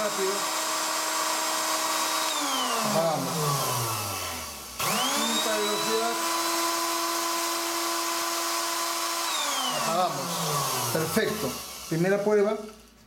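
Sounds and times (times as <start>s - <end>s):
electric blender motor whining: 0.0s - 12.6s.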